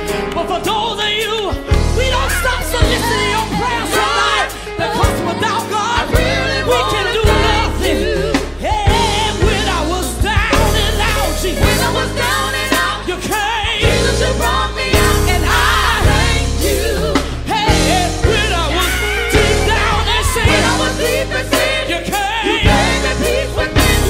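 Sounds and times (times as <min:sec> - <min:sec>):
band with heavy bass and drums: 0:00.0 - 0:24.0
gospel song with singer: 0:00.0 - 0:24.0.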